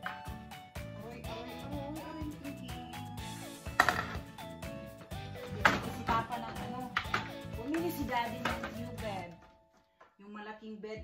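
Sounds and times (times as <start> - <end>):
melodic background music: 0.0 - 10.3.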